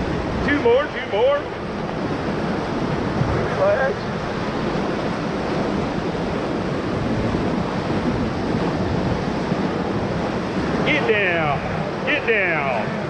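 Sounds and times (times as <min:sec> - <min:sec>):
rapids rushing water: 0:00.0 - 0:13.0.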